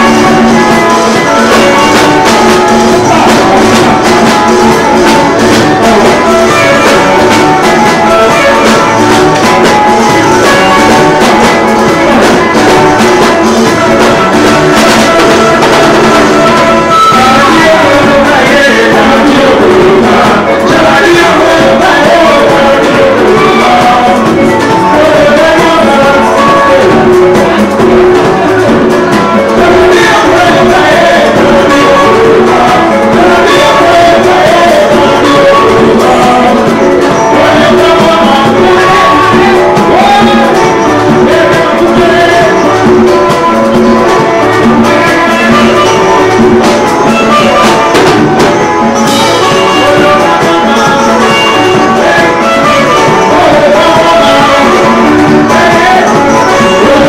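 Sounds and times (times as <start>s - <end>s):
drums: 0.0s - 57.0s
group of voices singing: 0.0s - 57.0s
live band music: 0.0s - 57.0s.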